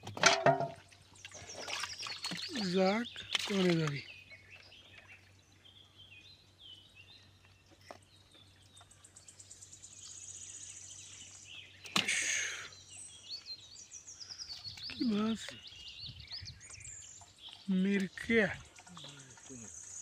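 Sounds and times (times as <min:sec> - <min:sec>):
small birds chirping: 0:00.8 - 0:20.0.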